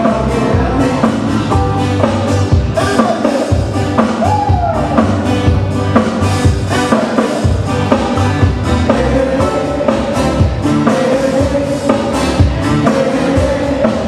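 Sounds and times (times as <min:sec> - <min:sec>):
drum kit beat: 0:00.0 - 0:14.0
live band playing hawaiian music: 0:00.0 - 0:14.0.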